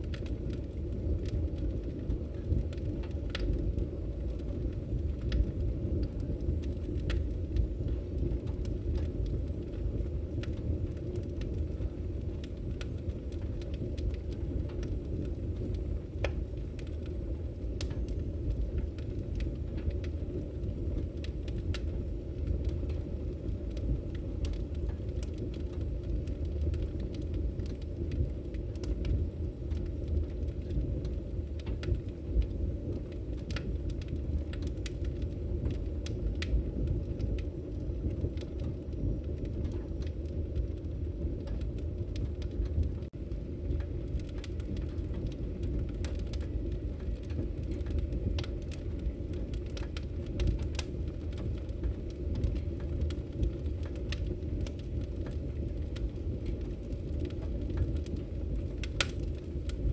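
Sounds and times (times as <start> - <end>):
fire crackling and popping: 0.0 - 59.9
fire flames rumbling: 0.0 - 59.9.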